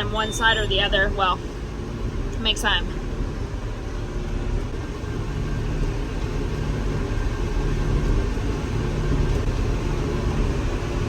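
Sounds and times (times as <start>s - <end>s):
tractor engine rumbling under load: 0.0s - 11.0s.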